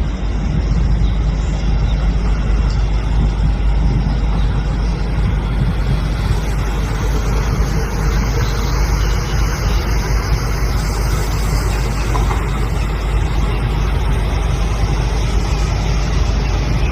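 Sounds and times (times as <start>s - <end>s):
jet engines rumbling: 0.0s - 16.9s.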